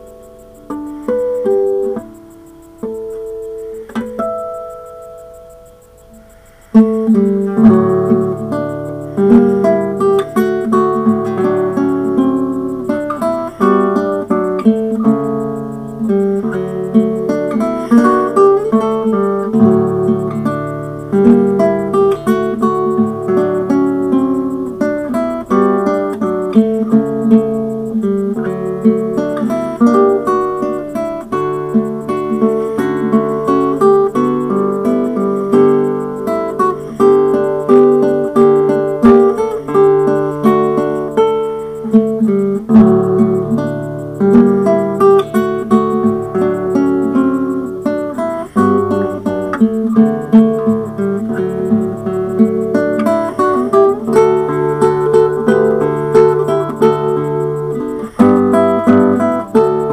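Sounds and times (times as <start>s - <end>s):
fingerstyle classical guitar: 0.0s - 59.9s.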